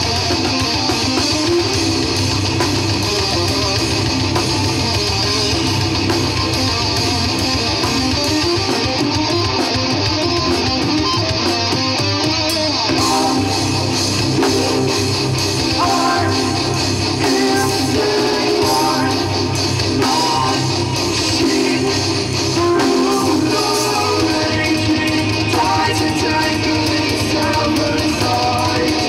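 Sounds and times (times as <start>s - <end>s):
live band guitar instrumental: 0.0s - 29.0s.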